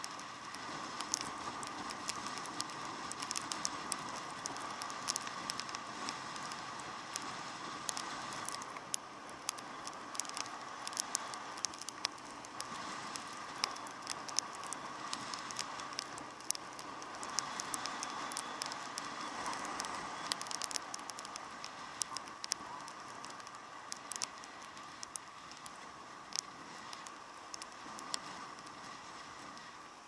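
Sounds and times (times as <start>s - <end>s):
raindrops ticking on camera: 0.0s - 30.0s.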